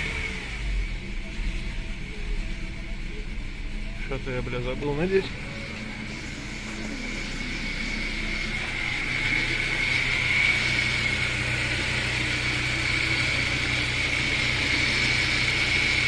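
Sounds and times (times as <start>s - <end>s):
petrol engine running: 0.0s - 16.0s.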